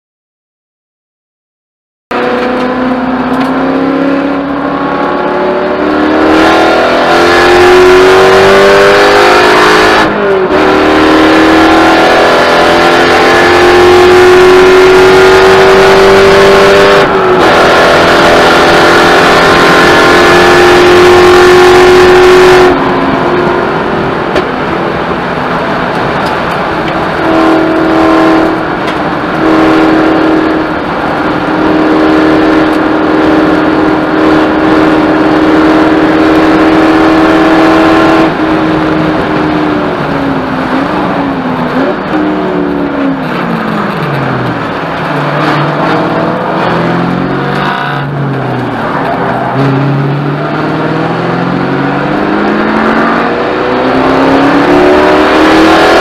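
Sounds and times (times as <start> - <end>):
car engine at full throttle: 2.1 - 56.0.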